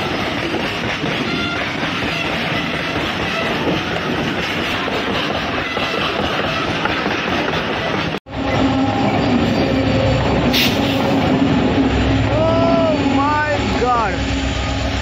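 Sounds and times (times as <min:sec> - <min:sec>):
train wheels rumbling and clattering: 0:00.0 - 0:15.0.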